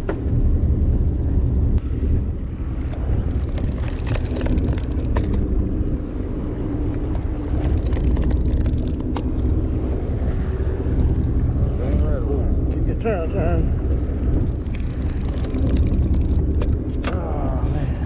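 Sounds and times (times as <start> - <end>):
boat engine rumble: 0.0 - 18.0
wind on microphone: 0.0 - 18.0.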